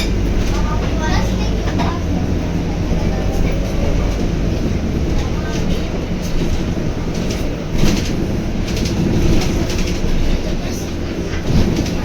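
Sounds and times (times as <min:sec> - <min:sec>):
body and fittings rattling: 0:00.0 - 0:12.0
bus engine and road rumble: 0:00.0 - 0:12.0.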